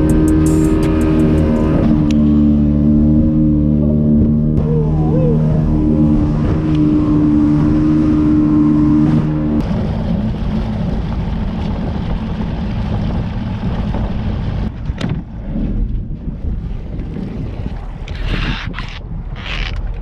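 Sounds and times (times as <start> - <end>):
boat motor running: 0.0 - 20.0
water rushing against hull: 0.0 - 20.0
wind: 0.0 - 20.0.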